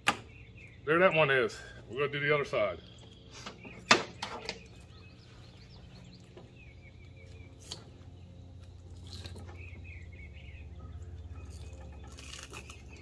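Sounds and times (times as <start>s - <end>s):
faint birds chirping: 0.0s - 13.0s
low steady hum: 0.0s - 13.0s.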